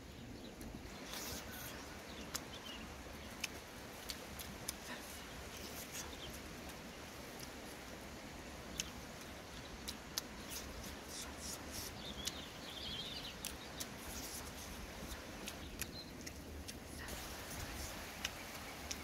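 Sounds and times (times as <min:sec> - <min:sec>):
soft chewing: 0:00.3 - 0:19.0
mouth clicks and smacks: 0:00.6 - 0:19.0.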